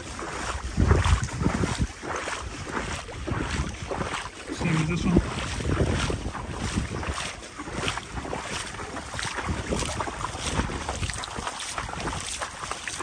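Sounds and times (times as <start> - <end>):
water sloshing and splashing: 0.0 - 13.0
wind buffeting microphone: 0.1 - 13.0.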